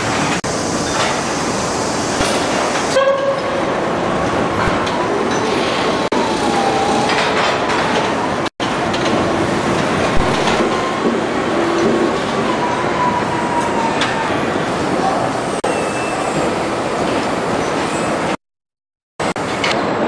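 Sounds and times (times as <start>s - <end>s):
factory machinery din: 0.0s - 18.4s.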